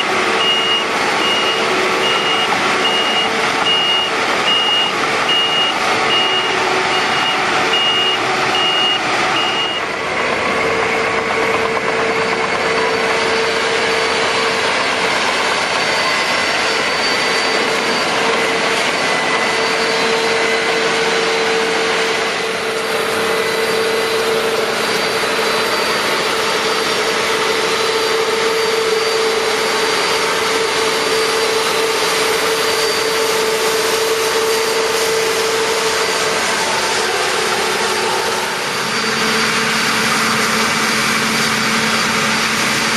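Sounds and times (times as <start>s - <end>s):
reversing alarm beeping: 0.0s - 10.0s, 10.7s - 42.5s
combine harvester running: 0.0s - 42.9s
machine whine: 0.0s - 42.9s.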